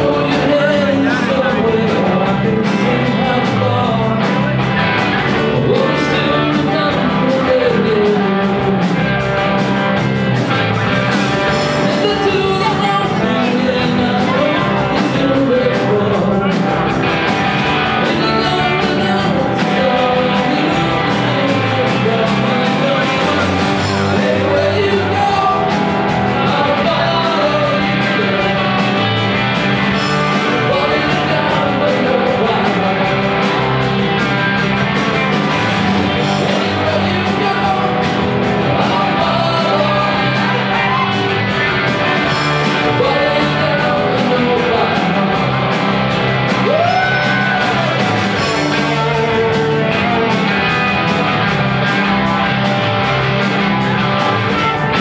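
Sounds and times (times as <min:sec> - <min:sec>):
person singing: 0:00.0 - 0:09.8, 0:11.1 - 0:55.0
live rock band playing: 0:00.0 - 0:55.0.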